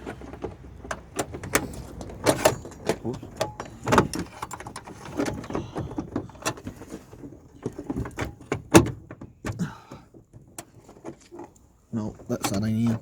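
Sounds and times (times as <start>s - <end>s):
plastic knocks clicks and rattles: 0.0s - 13.0s.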